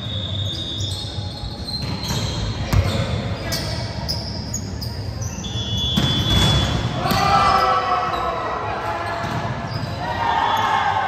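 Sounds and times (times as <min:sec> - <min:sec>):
sneaker squeaks on court floor: 0:00.0 - 0:08.4, 0:09.0 - 0:10.1.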